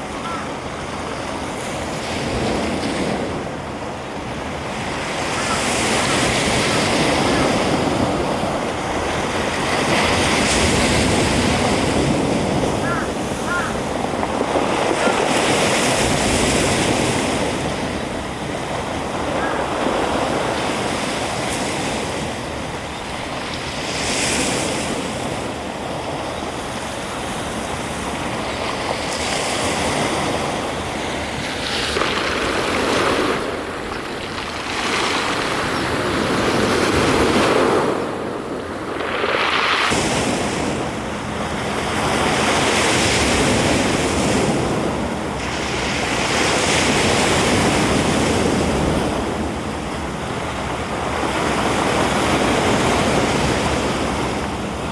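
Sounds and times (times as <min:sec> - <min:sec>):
sea waves breaking: 0:00.0 - 0:54.9
wind: 0:00.0 - 0:54.9.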